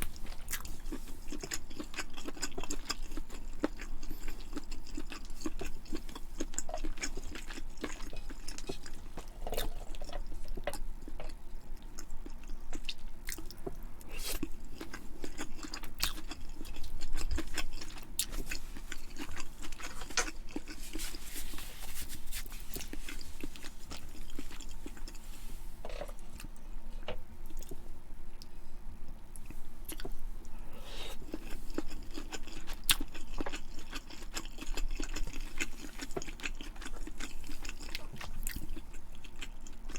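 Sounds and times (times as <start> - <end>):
person chewing food: 0.0 - 28.5, 29.4 - 39.9.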